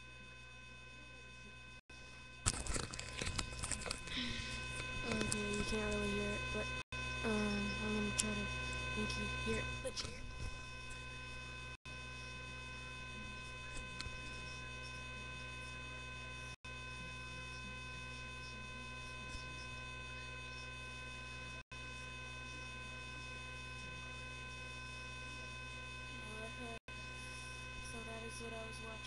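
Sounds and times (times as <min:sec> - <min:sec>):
constant whining tones: 0:00.0 - 0:29.0
electrical mains hum: 0:00.0 - 0:29.0.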